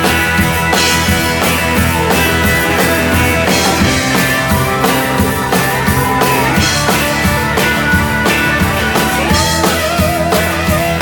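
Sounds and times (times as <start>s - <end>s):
drum kit beat: 0.0s - 11.0s
electric guitars: 0.0s - 11.0s.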